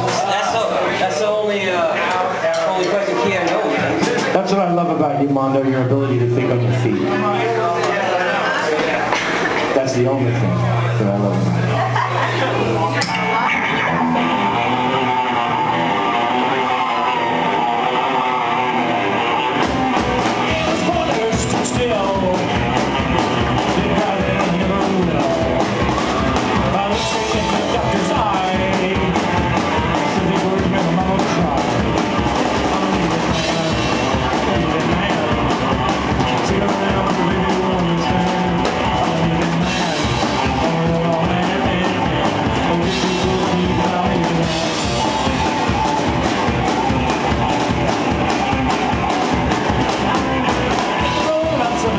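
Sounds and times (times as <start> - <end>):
drum kit: 0.0 - 51.9
upright bass: 0.0 - 51.9
electric guitar: 5.8 - 51.9.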